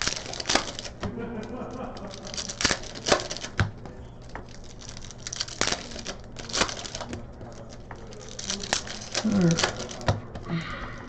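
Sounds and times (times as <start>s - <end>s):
cards and wrappers rustling: 0.0s - 11.0s.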